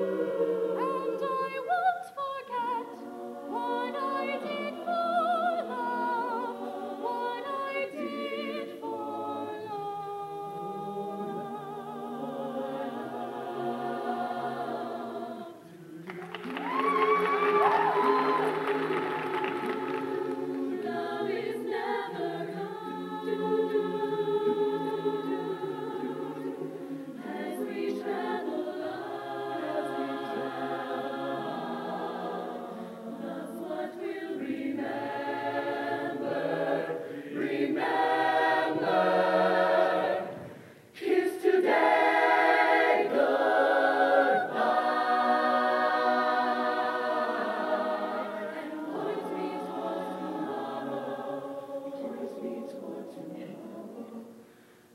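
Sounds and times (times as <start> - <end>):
choir singing: 0.0 - 54.5.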